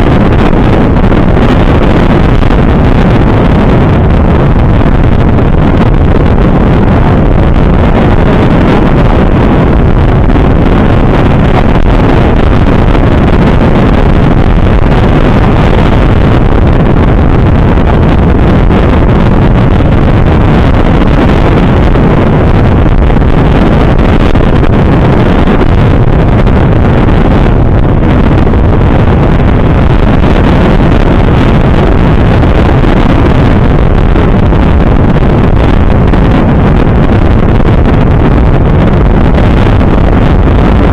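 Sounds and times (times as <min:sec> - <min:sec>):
road noise: 0:00.0 - 0:37.1
wind buffeting microphone: 0:00.0 - 0:40.9.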